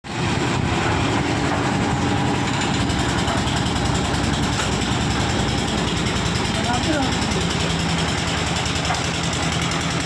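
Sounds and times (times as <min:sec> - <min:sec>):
loader engine running: 0:00.1 - 0:10.0.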